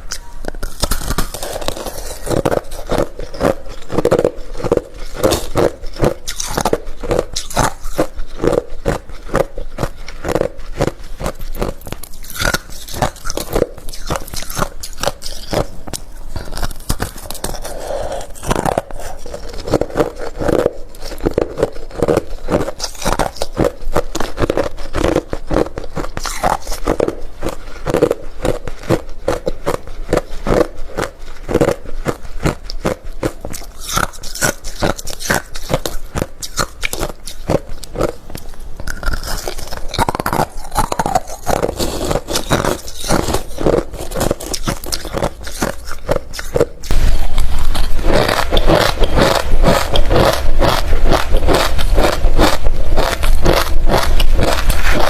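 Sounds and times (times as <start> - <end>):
chewing crunchy ice: 0.0 - 55.0.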